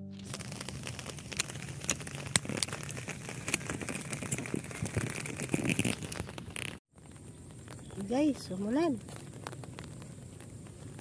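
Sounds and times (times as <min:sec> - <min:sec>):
plastic bag crinkling: 0:00.1 - 0:11.0.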